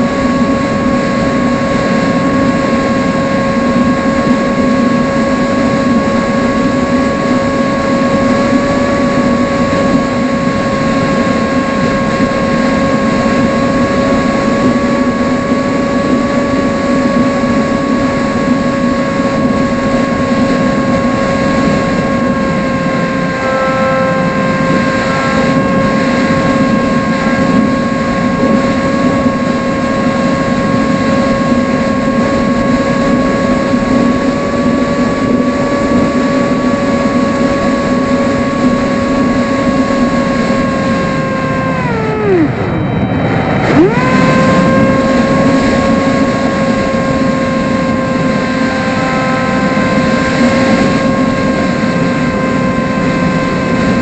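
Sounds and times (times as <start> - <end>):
electric motor and propeller whining: 0.0 - 54.0.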